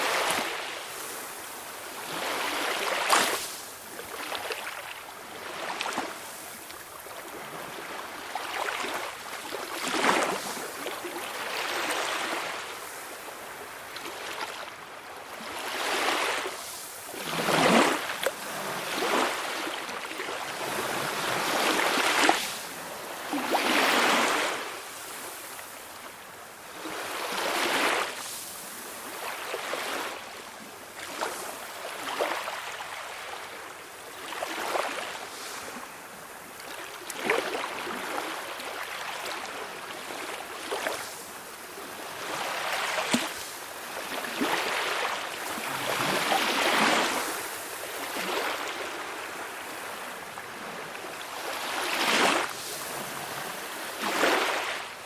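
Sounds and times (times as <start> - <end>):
small waves washing ashore: 0.0 - 55.0.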